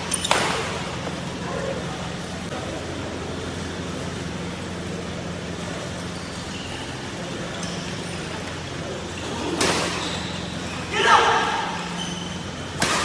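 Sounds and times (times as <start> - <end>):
low hum of indoor hall: 0.0 - 13.0.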